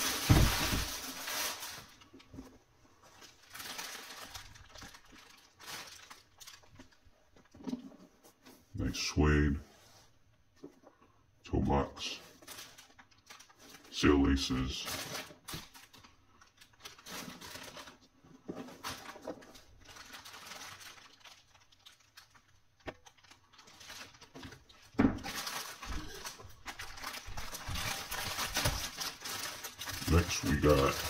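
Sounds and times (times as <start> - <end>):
plastic mailer bag crinkling: 0.0 - 2.3, 3.0 - 7.6, 11.7 - 31.0.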